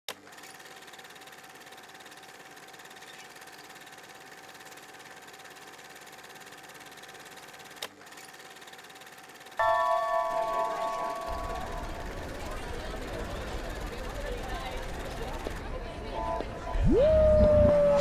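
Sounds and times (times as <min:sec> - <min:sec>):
film projector whirring: 0:00.1 - 0:15.8.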